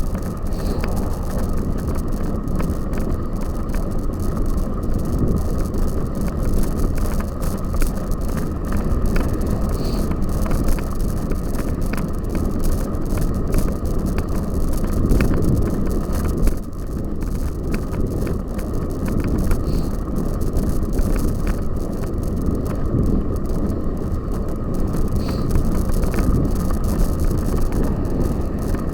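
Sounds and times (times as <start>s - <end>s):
bike clicks and rattles: 0.0s - 28.9s
bike tyre rumble on rough ground: 0.0s - 28.9s
wind on microphone: 0.0s - 28.9s.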